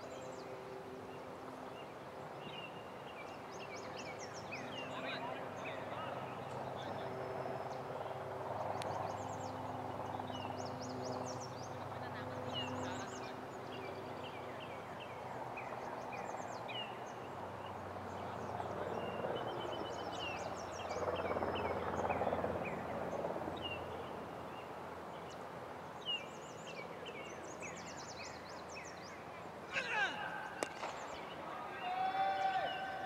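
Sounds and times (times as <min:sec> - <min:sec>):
birds chirping: 0:00.0 - 0:33.0
outdoor background noise: 0:00.0 - 0:33.0.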